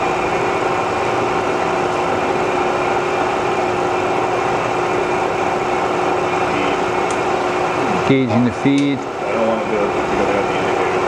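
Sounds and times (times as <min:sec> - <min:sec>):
milling machine whining hum: 0:00.0 - 0:11.0.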